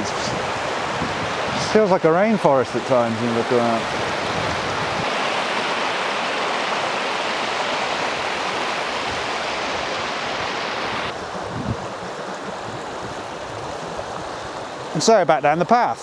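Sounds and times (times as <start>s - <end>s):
rushing stream water: 0.0s - 16.0s.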